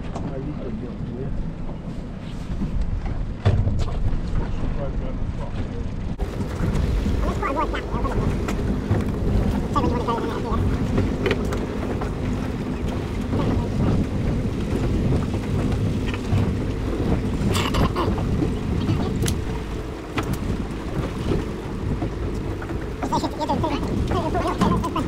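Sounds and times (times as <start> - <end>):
wind on microphone: 0.0 - 25.0
outboard motor running: 2.6 - 25.0.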